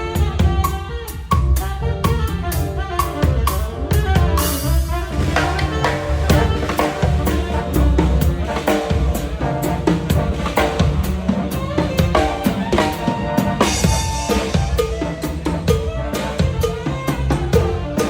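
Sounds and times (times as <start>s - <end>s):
band playing: 0.0s - 18.0s
drum kit groove: 0.0s - 18.0s.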